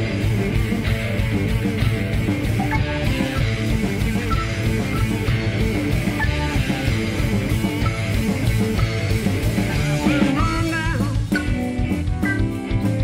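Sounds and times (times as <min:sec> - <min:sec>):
drum kit: 0:00.0 - 0:13.0
electric guitar: 0:00.0 - 0:13.0.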